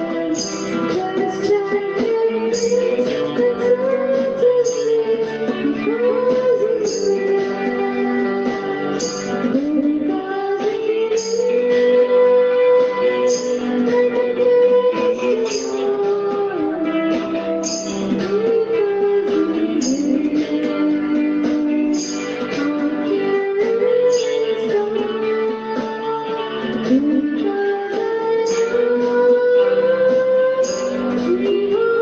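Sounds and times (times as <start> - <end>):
gliding guitar melody: 0.0 - 32.0.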